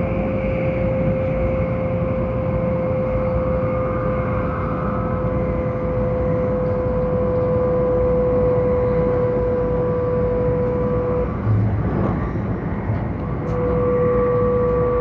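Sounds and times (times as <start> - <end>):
train rumble: 0.0 - 15.0
train whine: 0.0 - 15.0.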